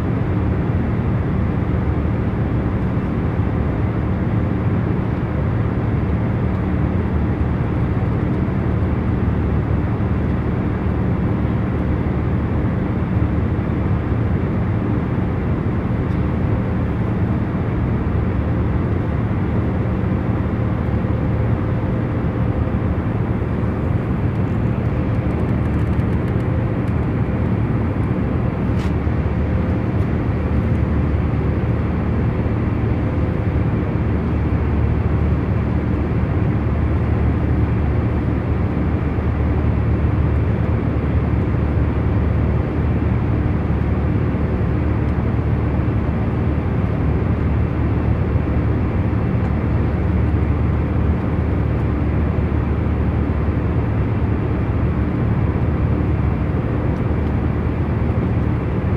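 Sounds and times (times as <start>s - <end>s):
airliner cabin hum and rush: 0.0s - 58.9s.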